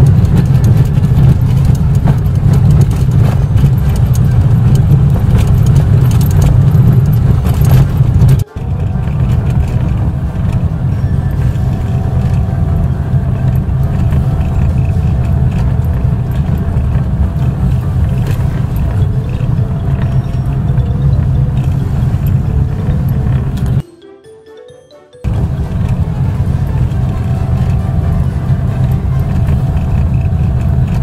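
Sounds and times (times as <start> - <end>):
engine and tyres rumbling: 0.0 - 23.8, 25.2 - 31.0
light rattles: 0.0 - 23.8, 25.3 - 31.0.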